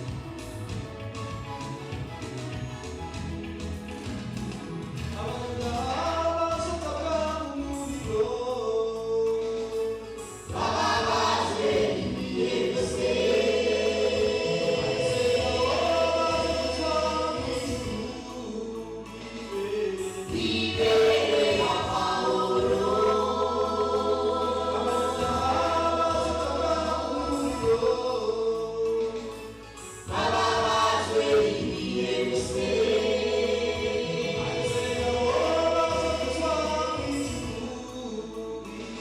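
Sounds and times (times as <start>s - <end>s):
choir singing gospel: 2.3s - 39.0s.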